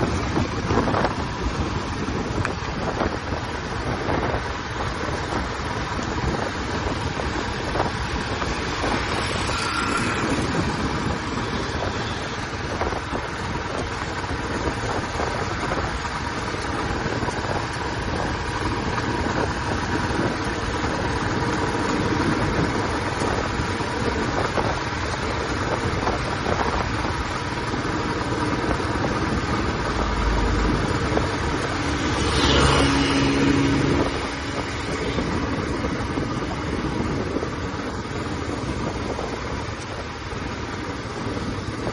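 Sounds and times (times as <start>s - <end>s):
motorcycle engine running: 0.0s - 41.9s
road and wind noise: 0.0s - 41.9s.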